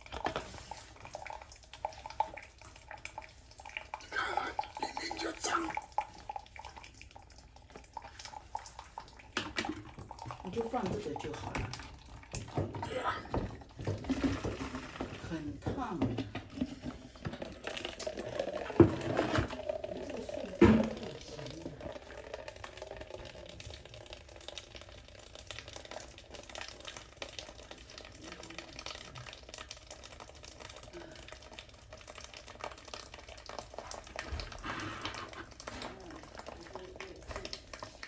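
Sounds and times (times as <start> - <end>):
faint water sounds: 0.0 - 38.0.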